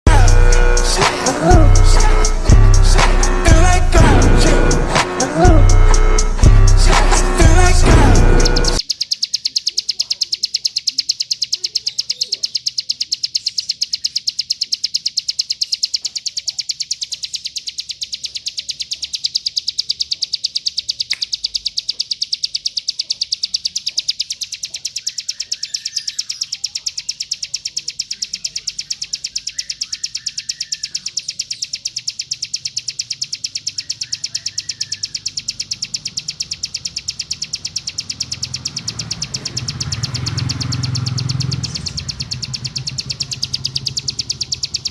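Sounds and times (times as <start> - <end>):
bird buzzing trill: 0.1 - 44.9
faint bird chirps: 7.2 - 44.9.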